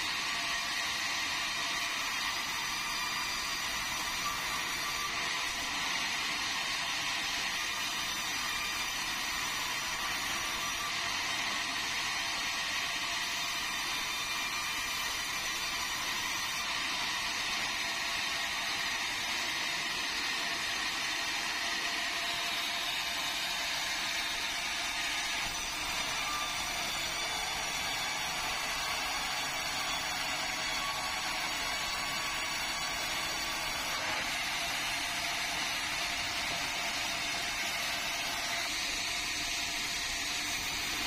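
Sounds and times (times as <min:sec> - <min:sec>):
band saw cutting timber: 0:00.0 - 0:41.0.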